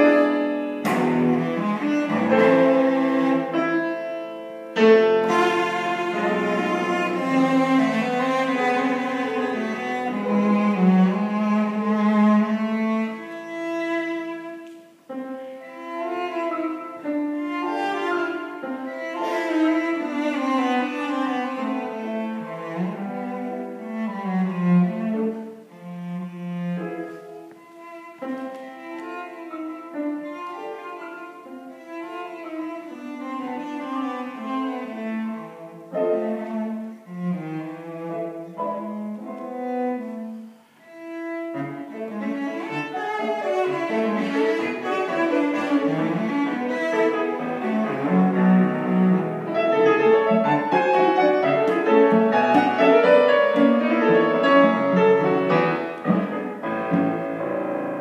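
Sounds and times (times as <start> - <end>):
bowed cello: 0.0 - 58.0
grand piano: 0.0 - 58.0.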